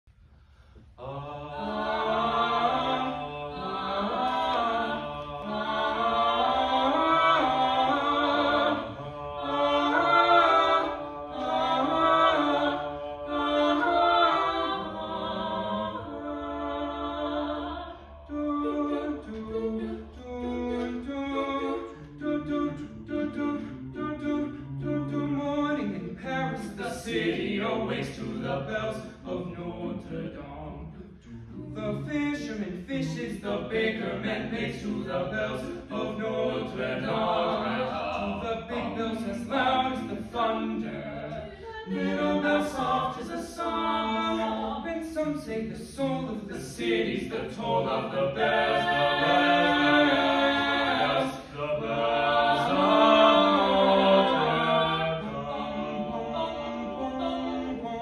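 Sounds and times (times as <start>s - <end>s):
a cappella vocal ensemble singing: 0.1s - 58.0s.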